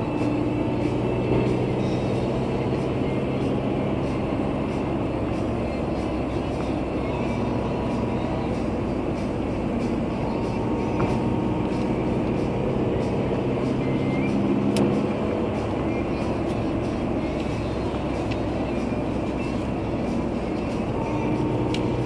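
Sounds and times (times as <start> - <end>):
car engine and road hum: 0.0 - 22.0.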